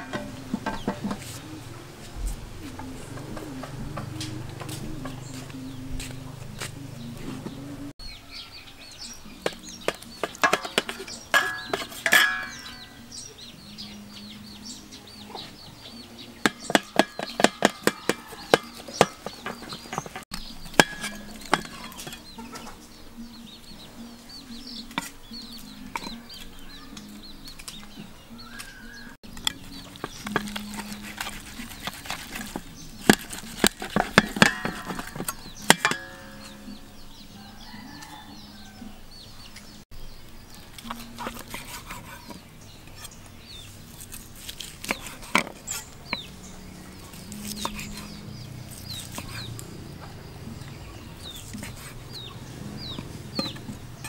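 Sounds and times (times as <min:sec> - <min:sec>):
chickens clucking: 0:00.0 - 0:39.8, 0:40.4 - 0:54.0.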